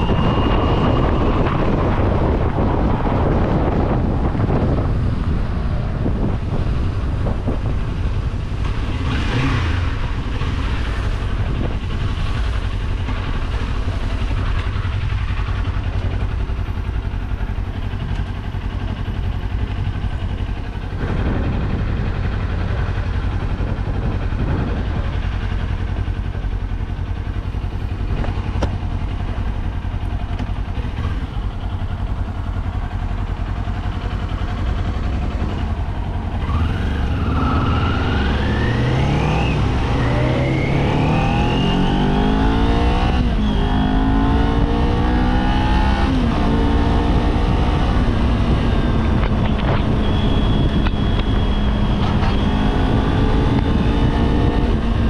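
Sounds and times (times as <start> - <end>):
wind rush: 0.0 - 30.0, 33.7 - 55.0
motorcycle engine revving: 0.0 - 55.0.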